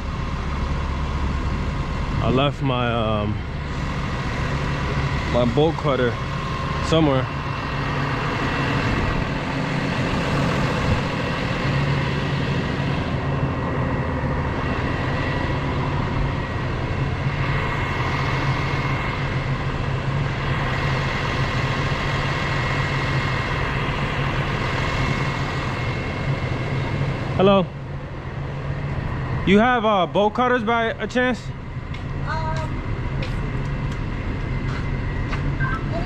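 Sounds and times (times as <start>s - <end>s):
truck engine humming: 0.0s - 36.0s.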